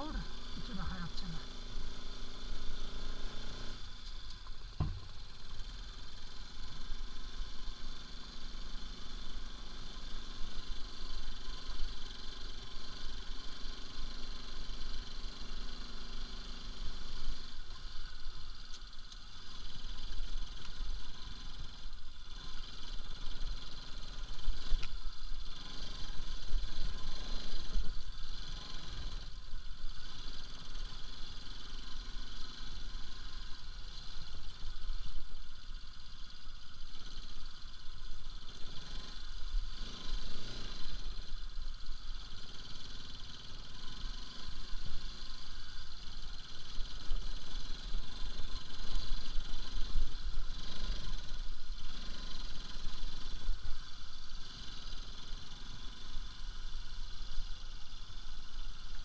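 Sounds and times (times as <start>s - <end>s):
motorcycle engine running: 0.0s - 59.0s
deep rumble of bumpy ride: 2.6s - 55.0s.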